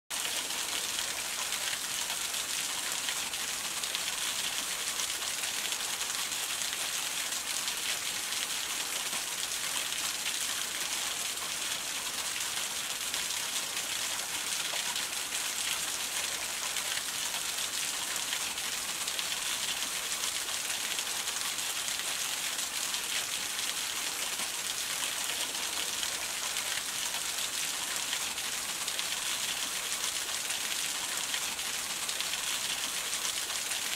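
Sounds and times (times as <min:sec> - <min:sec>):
patter of falling water: 0:00.1 - 0:33.9.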